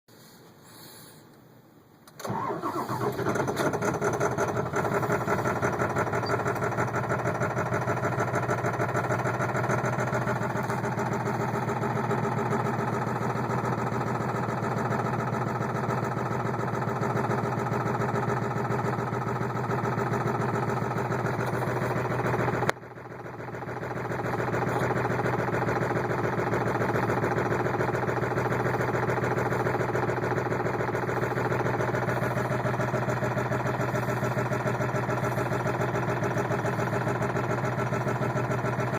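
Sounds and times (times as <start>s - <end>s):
diesel engine idling: 2.2s - 38.9s.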